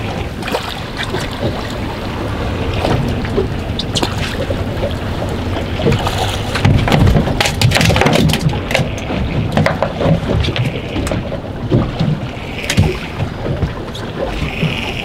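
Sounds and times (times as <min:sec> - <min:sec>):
waves slapping against hull: 0:00.0 - 0:15.0
wind buffeting microphone: 0:00.0 - 0:15.0.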